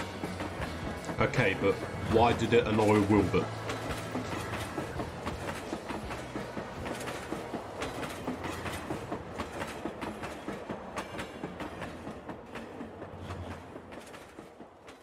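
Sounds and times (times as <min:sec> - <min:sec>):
train rumbling on rails: 0:00.0 - 0:15.0
train wheel clicks: 0:00.0 - 0:15.0.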